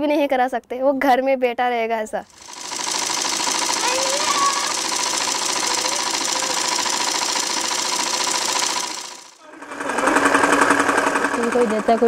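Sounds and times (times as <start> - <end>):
sewing machine clattering: 2.2 - 12.0.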